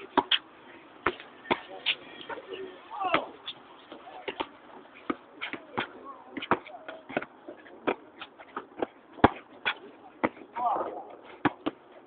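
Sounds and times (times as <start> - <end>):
faint voices: 0.0 - 11.4.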